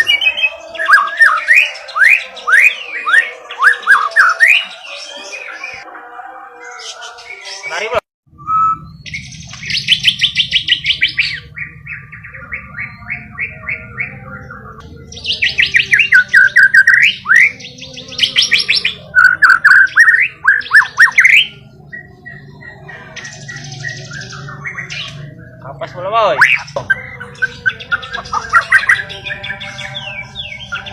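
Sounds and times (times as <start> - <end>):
songbird chirping and whistling: 0.0 - 5.9, 6.6 - 30.9.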